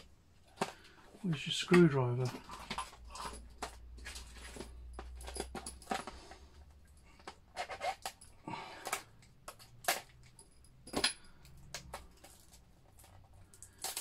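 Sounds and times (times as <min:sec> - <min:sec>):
plastic packaging clicking and crinkling: 0:00.0 - 0:14.0.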